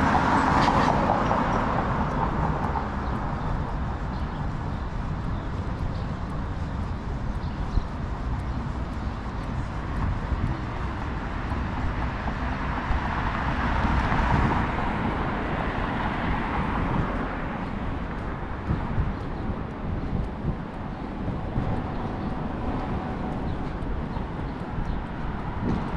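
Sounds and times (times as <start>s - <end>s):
low traffic rumble: 0.0s - 25.9s.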